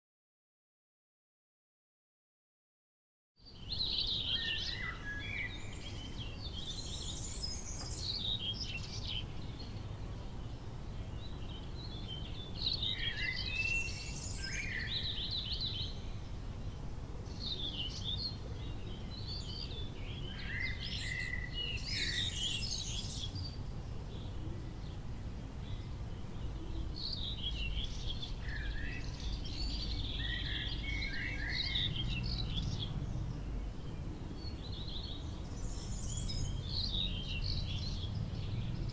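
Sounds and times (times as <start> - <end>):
birds chirping and singing: 3.4 - 38.9.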